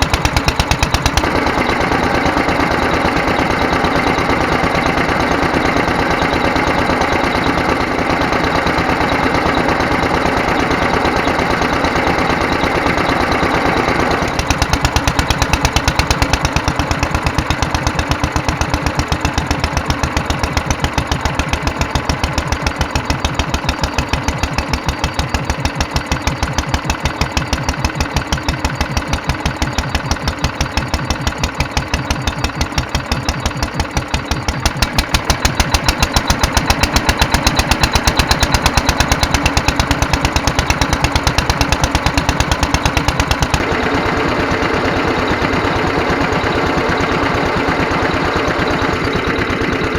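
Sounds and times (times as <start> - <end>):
single-cylinder engine running: 0.0 - 49.9.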